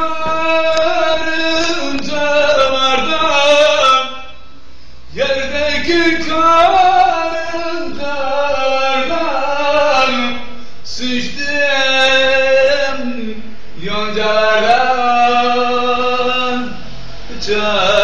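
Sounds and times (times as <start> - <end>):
man singing folk melody: 0.0 - 4.3, 5.1 - 16.7.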